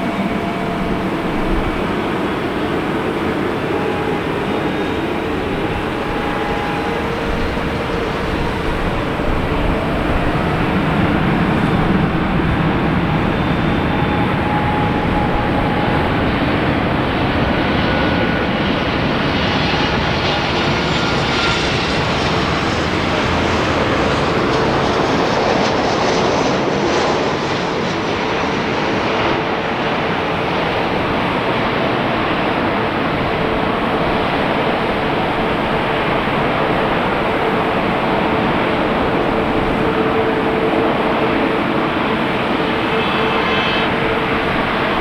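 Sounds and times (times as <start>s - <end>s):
faint engine whine: 0.0s - 45.0s
jet engines roaring: 0.0s - 45.0s.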